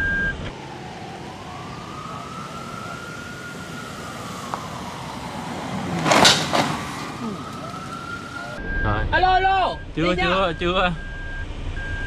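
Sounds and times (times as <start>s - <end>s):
siren wailing: 0.0s - 6.0s, 6.9s - 12.0s.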